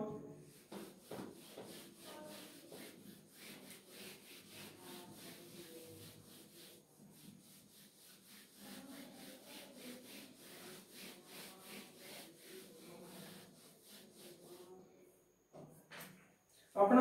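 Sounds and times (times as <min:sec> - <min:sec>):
duster rubbing on whiteboard: 0:00.4 - 0:14.9.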